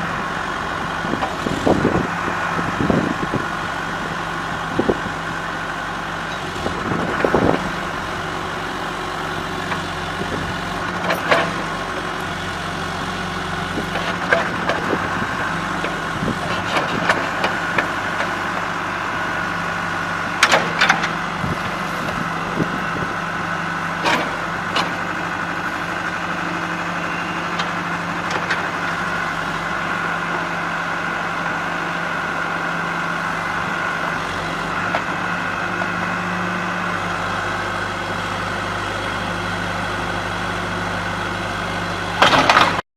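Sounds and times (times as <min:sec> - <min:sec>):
diesel engine idling: 0:00.0 - 0:42.8.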